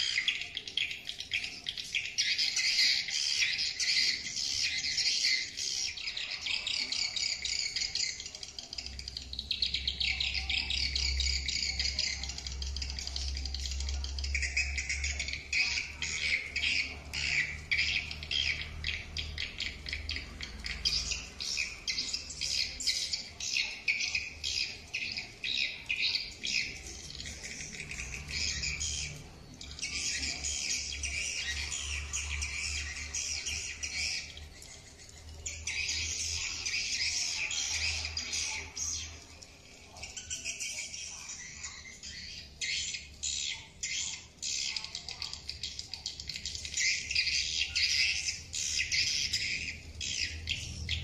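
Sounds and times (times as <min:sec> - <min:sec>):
bird call chirps and twitters: 0:00.0 - 0:51.0.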